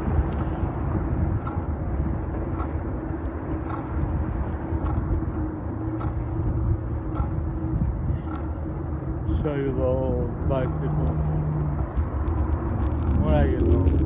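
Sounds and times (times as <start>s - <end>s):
road and wind rumble: 0.0s - 14.0s
steady hum: 0.0s - 14.0s.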